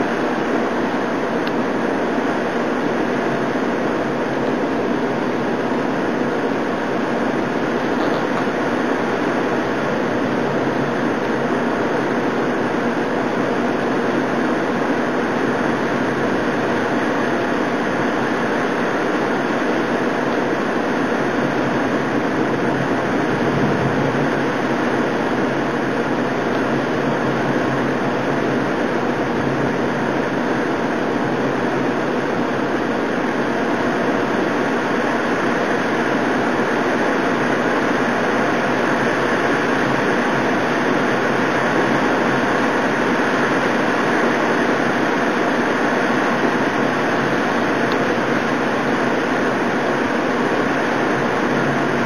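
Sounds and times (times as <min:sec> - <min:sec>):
heavy rain roar: 0:00.0 - 0:52.0.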